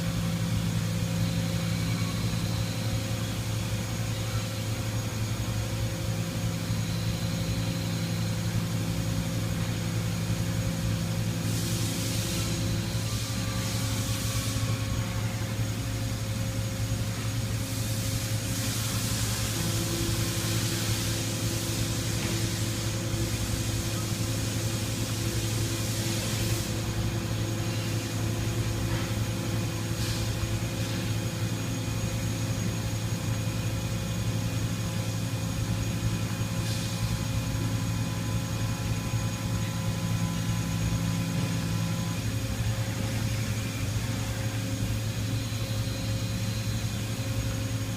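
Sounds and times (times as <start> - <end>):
machine hiss: 0.0 - 47.9
machine hum with steady tones: 0.0 - 47.9.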